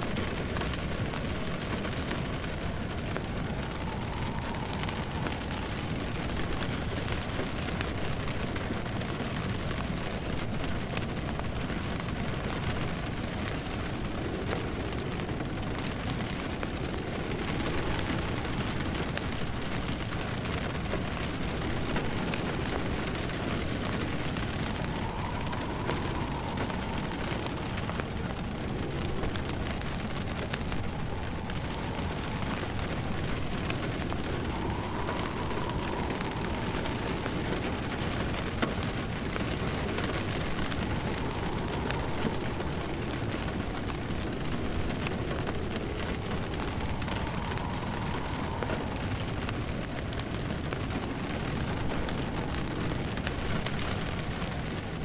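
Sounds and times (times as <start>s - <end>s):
faint wind howl: 0.0s - 55.0s
steady rain: 0.0s - 55.0s
wood fire crackling: 0.0s - 55.0s.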